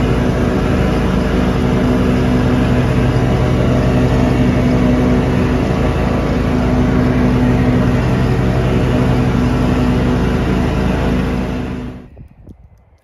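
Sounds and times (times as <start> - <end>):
lawn tractor engine running: 0.0 - 12.2.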